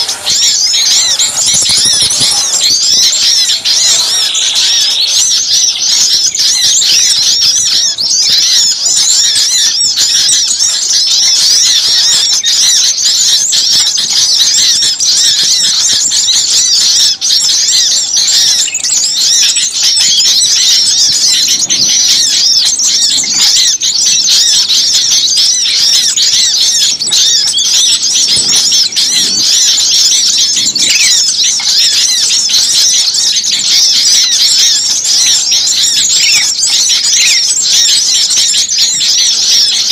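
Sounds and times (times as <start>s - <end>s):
small birds chirping and squealing: 0.0s - 39.9s.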